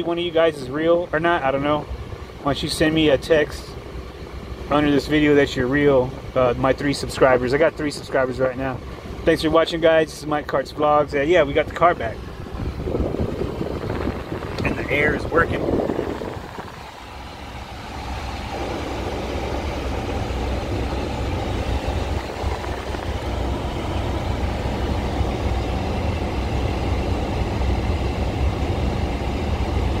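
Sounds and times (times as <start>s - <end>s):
air conditioning blower rushing: 0.0s - 30.0s
car engine idling hum: 0.0s - 30.0s.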